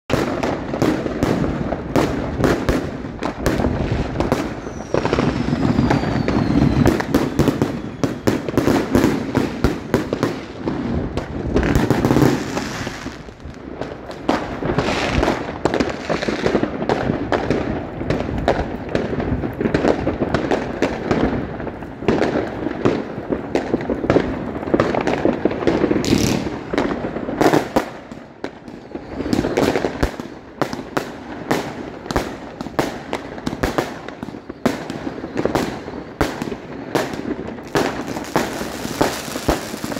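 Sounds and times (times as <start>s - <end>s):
fireworks bangs and cracks: 0.1s - 39.9s.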